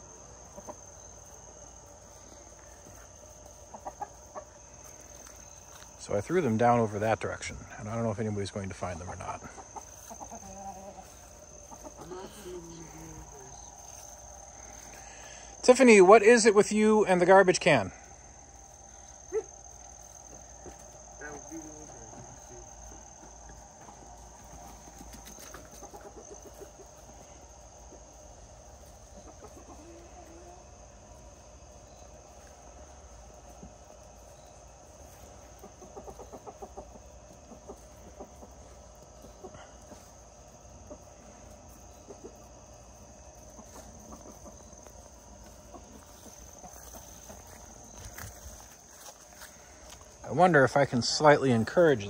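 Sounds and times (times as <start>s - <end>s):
chickens clucking: 0.0s - 52.0s
high-pitched insect drone: 0.0s - 52.0s.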